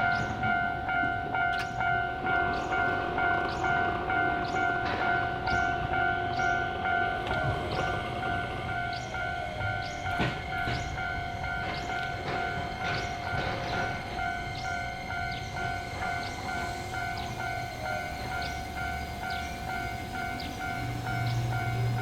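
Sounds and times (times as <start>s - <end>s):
level crossing alarm: 0.0s - 22.0s
train rumbling by: 0.0s - 22.0s.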